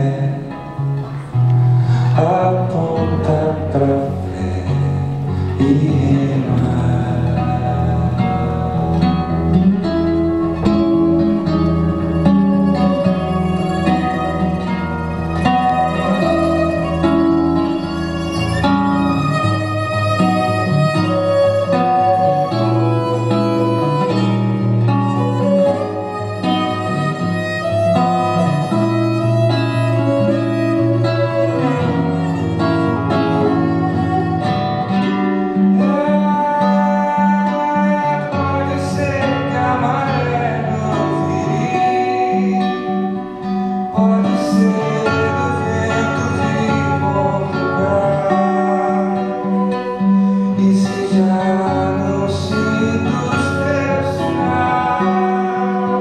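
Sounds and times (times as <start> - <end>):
man singing: 0.0 - 9.9, 12.2 - 56.0
acoustic guitar playing: 0.0 - 56.0.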